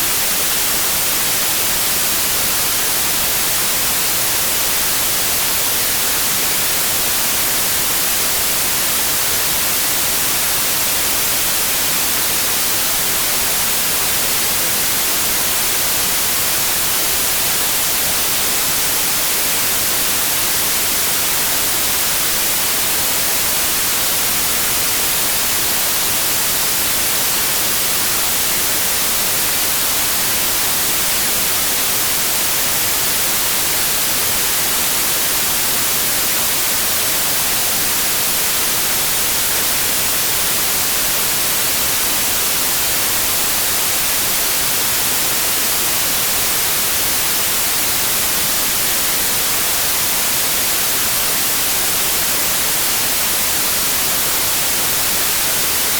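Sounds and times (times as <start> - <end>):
steady white noise hiss: 0.0 - 55.9.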